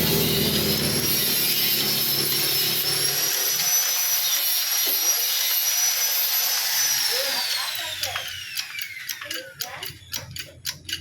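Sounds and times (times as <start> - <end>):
power tool whining: 0.0 - 10.3.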